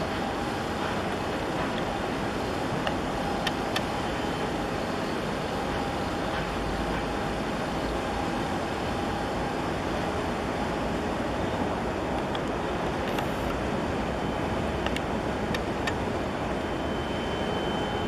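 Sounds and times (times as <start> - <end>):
water: 0.0 - 18.0
wind: 0.0 - 18.0.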